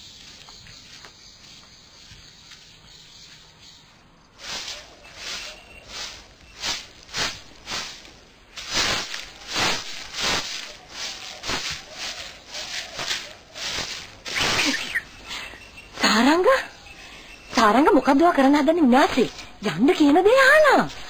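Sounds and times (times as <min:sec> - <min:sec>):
broom sweeping earth: 0:00.0 - 0:16.9.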